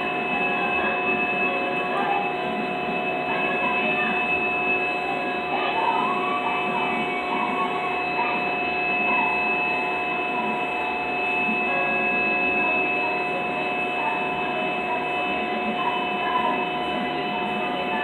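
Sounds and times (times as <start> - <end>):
milling machine spindle whine: 0.0 - 18.0.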